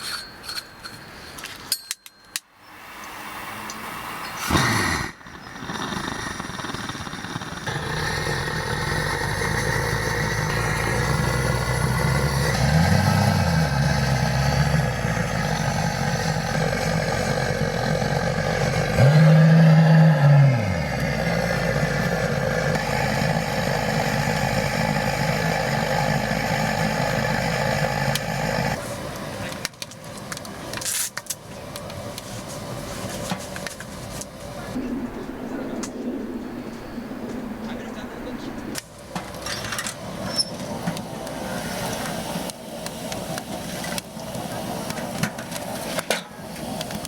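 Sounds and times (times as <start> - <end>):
engine running: 4.4 - 47.0.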